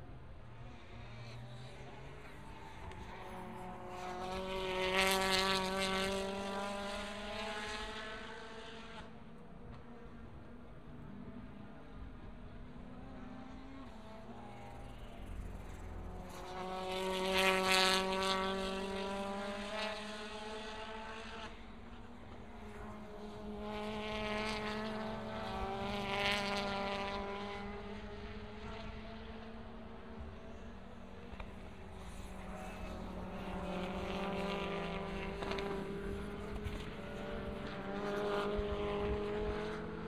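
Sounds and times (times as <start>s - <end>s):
racing car engines passing: 0.0s - 40.0s.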